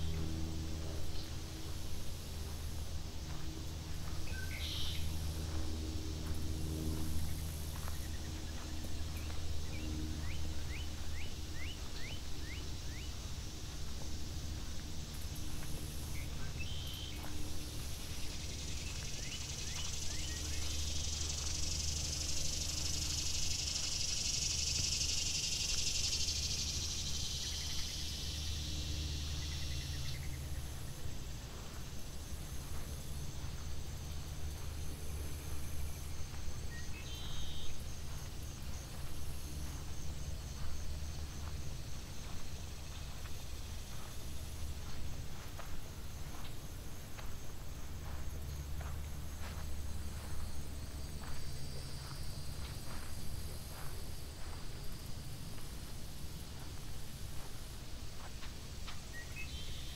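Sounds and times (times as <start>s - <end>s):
cicada buzzing: 0.0s - 59.9s
low hum: 0.0s - 59.9s.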